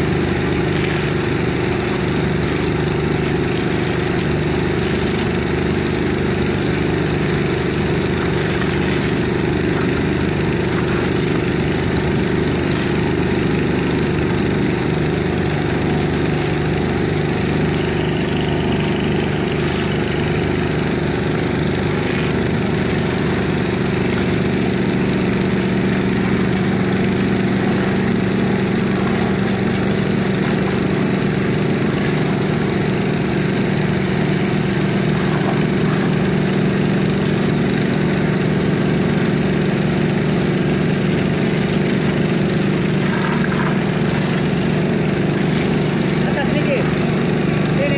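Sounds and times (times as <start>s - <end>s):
engine humming steadily: 0.0s - 47.9s
water jets hissing from hoses: 0.0s - 47.9s.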